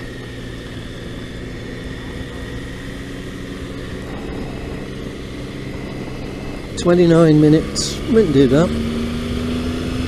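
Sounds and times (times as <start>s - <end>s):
motorcycle engine droning: 0.0s - 10.0s
wind and road noise: 0.0s - 10.0s.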